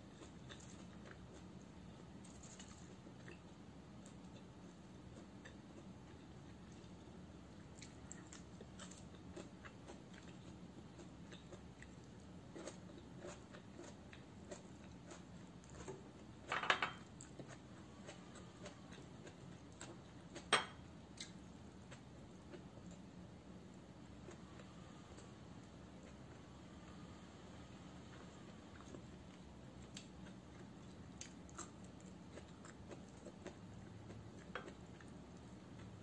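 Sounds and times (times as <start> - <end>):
soft chewing: 0.0 - 36.0.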